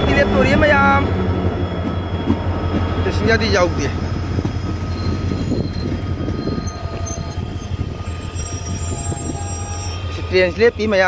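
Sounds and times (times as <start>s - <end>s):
high wheel squealing: 0.0s - 11.0s
train wheels rumbling on rails: 0.0s - 11.0s.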